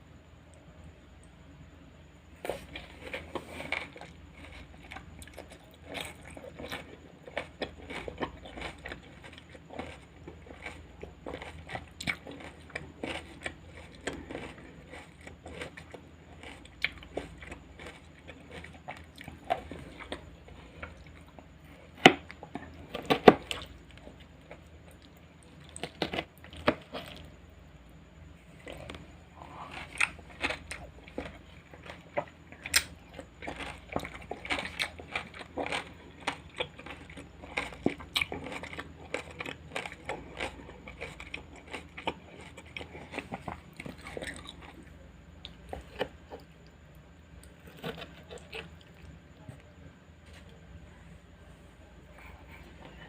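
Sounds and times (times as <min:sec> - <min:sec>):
chewing crunchy vegetables: 0:02.3 - 0:51.3.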